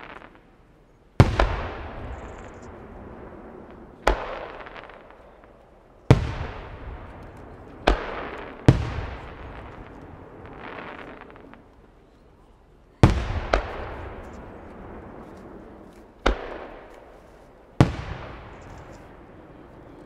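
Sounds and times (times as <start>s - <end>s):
firework shells booming: 1.2s - 11.8s, 13.0s - 20.0s.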